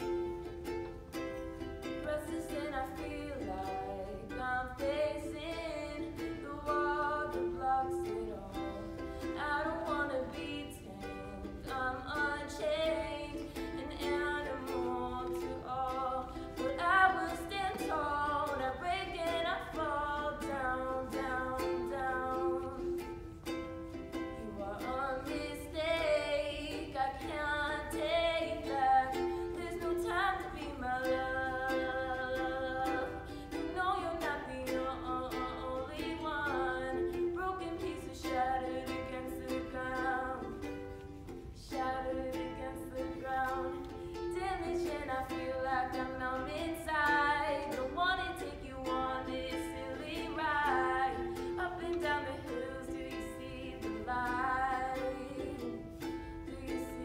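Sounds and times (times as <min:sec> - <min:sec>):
ukulele strumming: 0:00.0 - 0:57.0
woman singing: 0:00.0 - 0:57.0.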